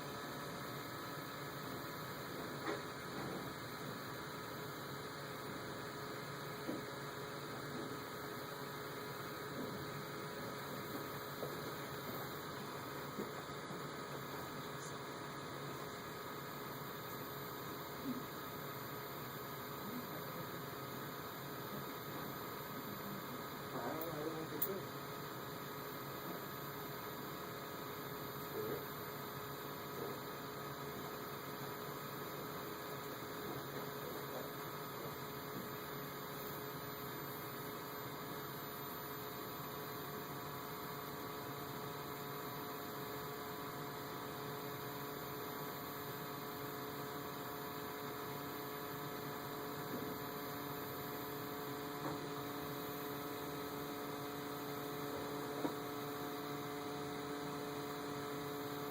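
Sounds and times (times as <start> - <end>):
hum of held tones: 0.0 - 58.9.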